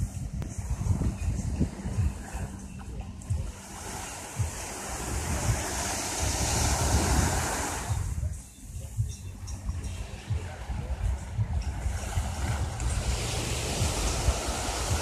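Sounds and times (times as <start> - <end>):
small waves breaking on beach: 0.0 - 8.3, 9.7 - 15.0
wind buffeting microphone: 0.0 - 15.0.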